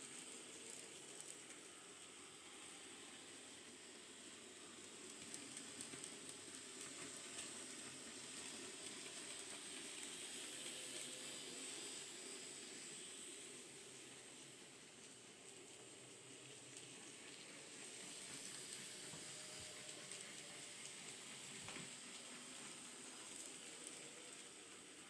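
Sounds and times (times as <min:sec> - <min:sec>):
model train motor whirring: 0:00.0 - 0:25.0.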